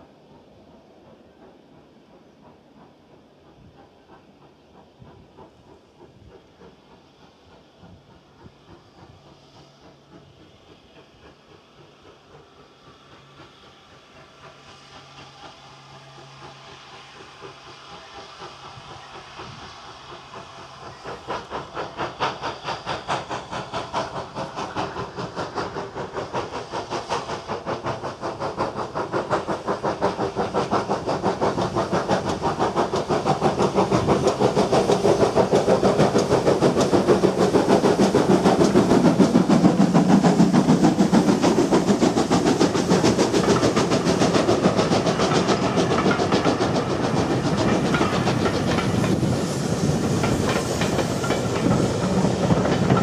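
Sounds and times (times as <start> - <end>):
hiss of steam: 0.0 - 53.0
steam locomotive exhaust beats: 0.0 - 53.0
train coaches rolling past: 0.0 - 53.0.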